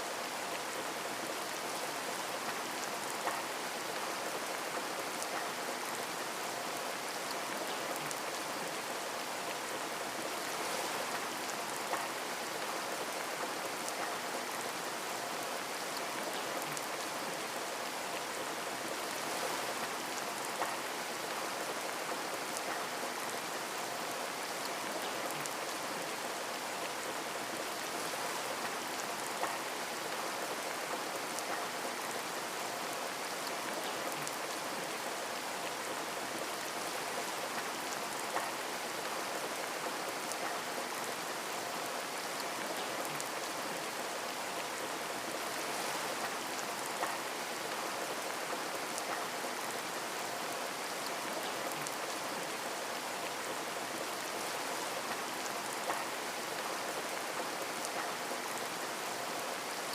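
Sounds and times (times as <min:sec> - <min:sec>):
rain pattering on a window: 0:00.1 - 0:59.9.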